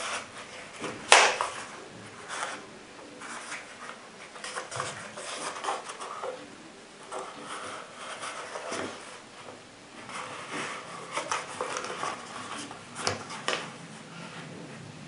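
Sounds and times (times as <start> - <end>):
fabric rubbing and rustling: 0.0 - 15.0.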